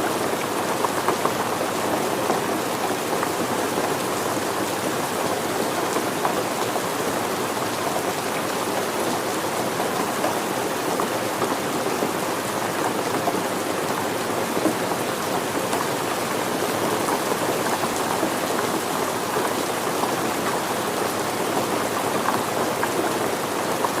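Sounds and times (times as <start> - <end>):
rain pattering on surfaces: 0.0 - 24.0.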